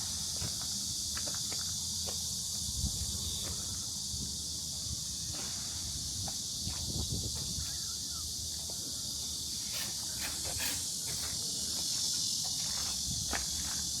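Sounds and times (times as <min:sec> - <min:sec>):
constant high hiss: 0:00.0 - 0:14.0.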